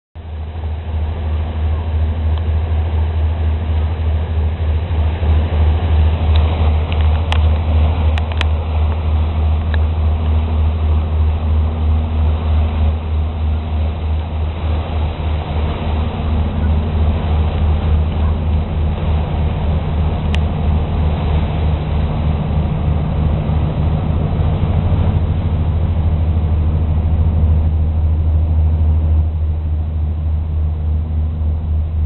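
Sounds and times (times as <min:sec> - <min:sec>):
diesel engine throbbing: 0:00.2 - 0:32.0.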